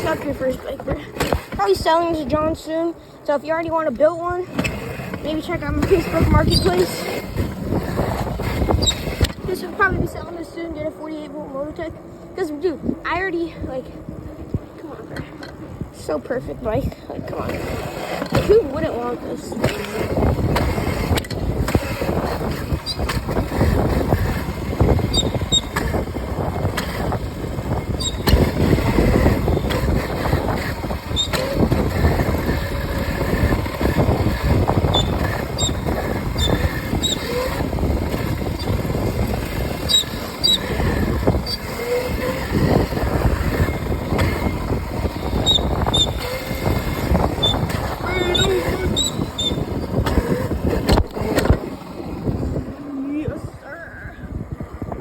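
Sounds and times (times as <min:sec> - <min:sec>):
wind and ride noise: 0:00.0 - 0:55.0.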